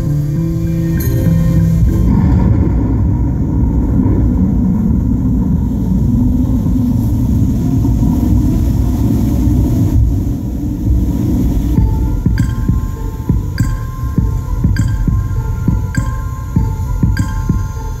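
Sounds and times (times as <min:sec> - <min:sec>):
deep rumbling drone over loudspeakers: 0:00.0 - 0:18.0.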